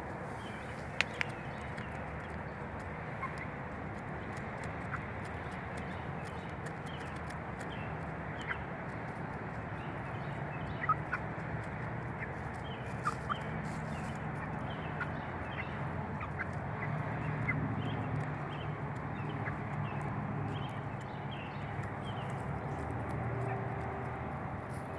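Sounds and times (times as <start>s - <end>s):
chickens pecking: 0.0s - 24.9s
chickens clucking: 0.9s - 24.9s.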